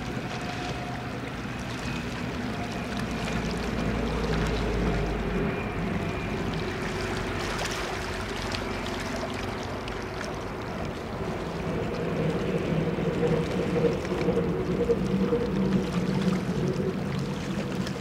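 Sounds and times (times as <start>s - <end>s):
drone of river and rail traffic: 0.0s - 18.0s
low engine hum: 0.0s - 18.0s
water washing at riverbank: 0.0s - 18.0s.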